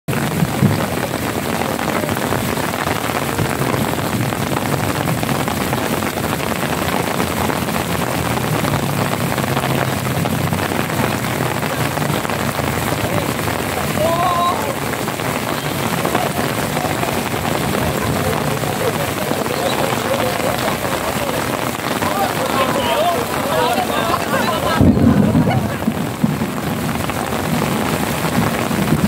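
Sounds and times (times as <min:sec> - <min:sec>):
steady rain falling: 0:00.1 - 0:29.0.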